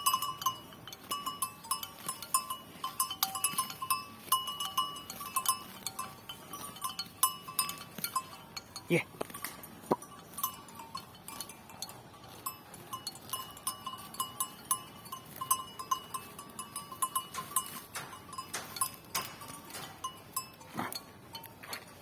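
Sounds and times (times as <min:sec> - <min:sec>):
buffalo chewing grass: 0:00.0 - 0:22.0
short high clinks: 0:00.0 - 0:22.0.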